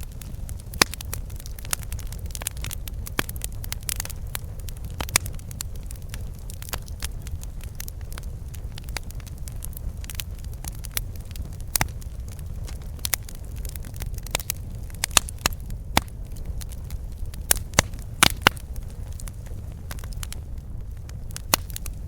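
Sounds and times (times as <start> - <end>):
campfire pops and crackles: 0.0 - 22.0
low rumble of flames: 0.0 - 22.0.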